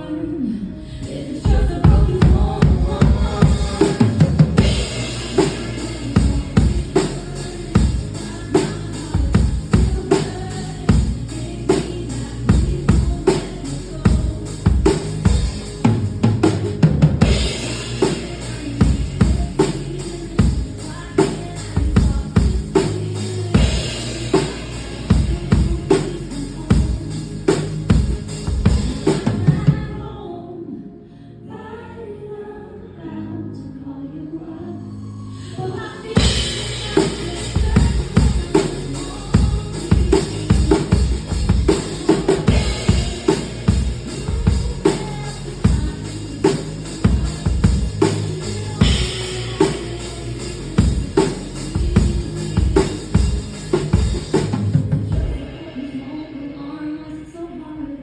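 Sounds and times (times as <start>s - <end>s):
live pop band playing: 0.0s - 30.2s, 35.6s - 57.4s
drum kit steady beat: 1.0s - 29.9s, 36.1s - 55.8s.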